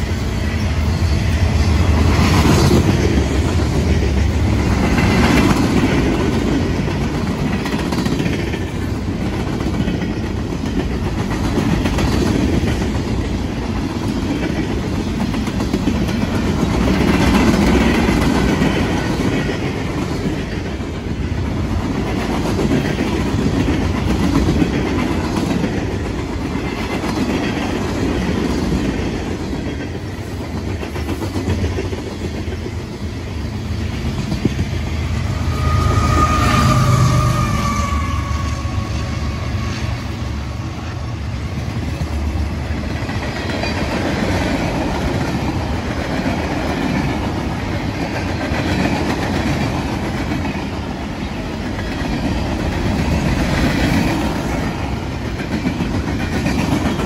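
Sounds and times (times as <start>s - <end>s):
freight train cars rumbling: 0.0s - 57.0s.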